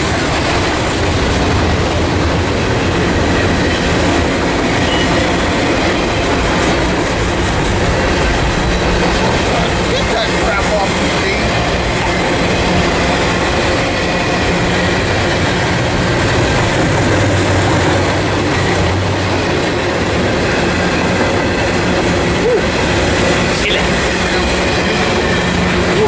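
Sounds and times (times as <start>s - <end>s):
freight train wheels rolling: 0.0s - 26.0s.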